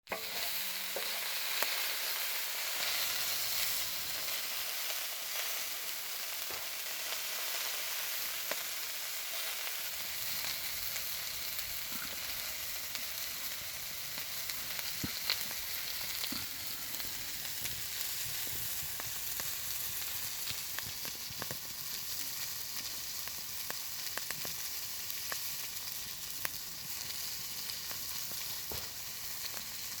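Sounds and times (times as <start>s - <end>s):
food sizzling on a griddle: 0.1s - 30.0s.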